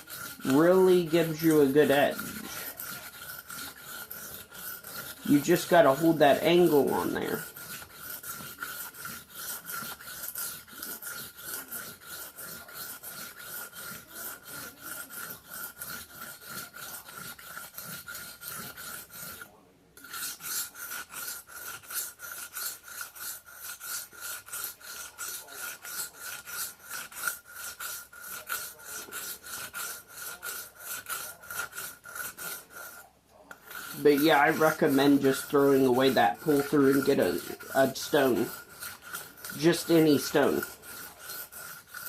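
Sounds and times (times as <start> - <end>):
knife rasping on whetstone: 0.0 - 42.0.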